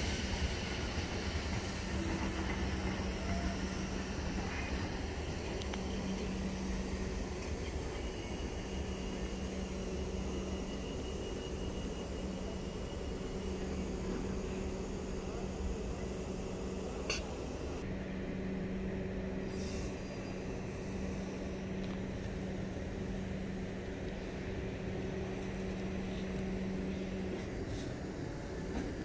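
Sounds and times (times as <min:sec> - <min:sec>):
electric train moving slowly: 0:00.0 - 0:29.0.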